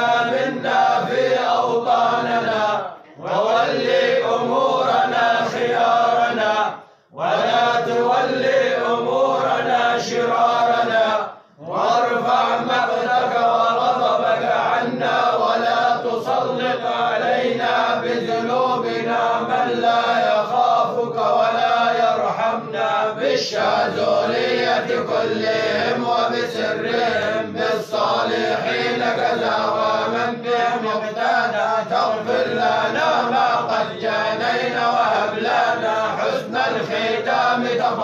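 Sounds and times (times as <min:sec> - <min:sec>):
voices chanting: 0:00.0 - 0:38.0.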